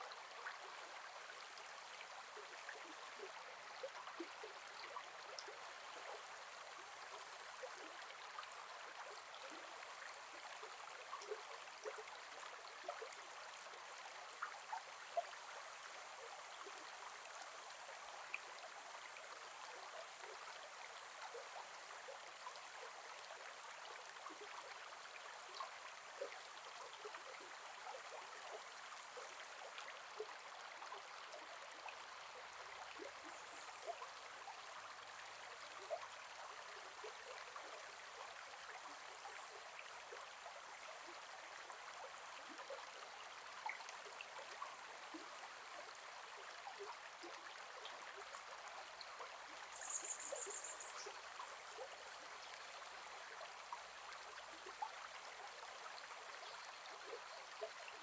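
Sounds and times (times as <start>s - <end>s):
river flowing with gurgles: 0.0s - 58.0s.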